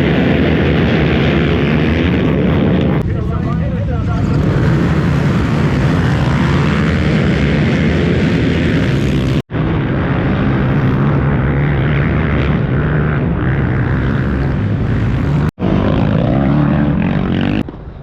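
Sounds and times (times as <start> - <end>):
atv engines revving: 0.0 - 17.7.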